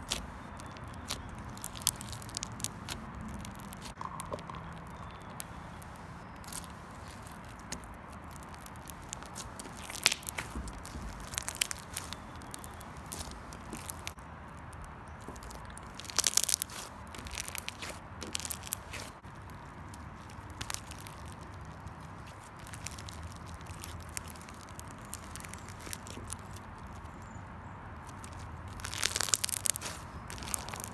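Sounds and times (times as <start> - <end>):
slime crackling and popping: 0.0 - 27.3, 28.0 - 30.9.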